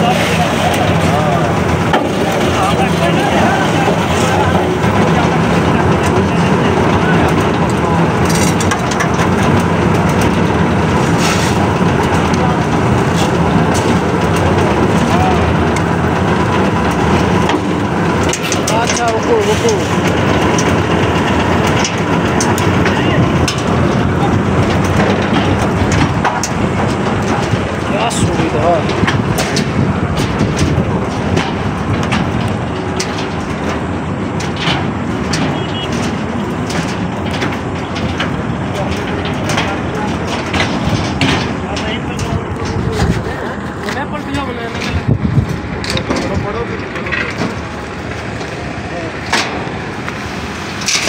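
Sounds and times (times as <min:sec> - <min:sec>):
concrete mixer running: 0:00.0 - 0:51.0
sharp clanks and knocks: 0:00.0 - 0:51.0
wet concrete pouring down chute: 0:00.0 - 0:51.0.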